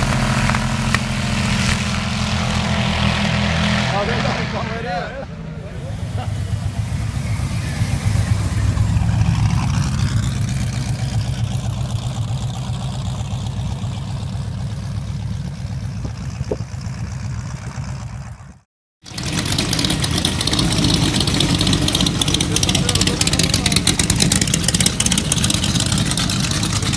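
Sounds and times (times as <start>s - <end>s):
engine rumbling pulling away: 0.0s - 26.9s
raspy engine running: 0.0s - 26.9s.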